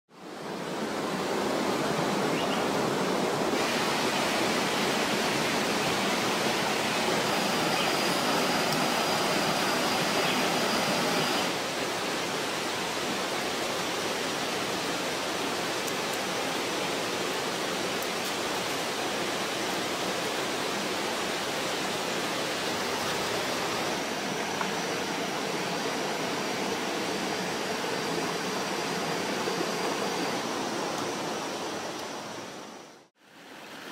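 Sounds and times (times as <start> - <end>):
running water rushing: 0.1 - 33.9.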